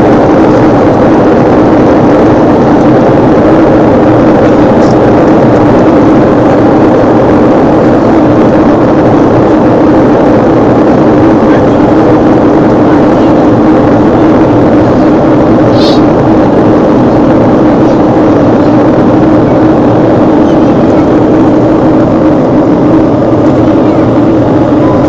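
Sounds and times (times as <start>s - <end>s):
jet engines droning: 0.0s - 25.0s.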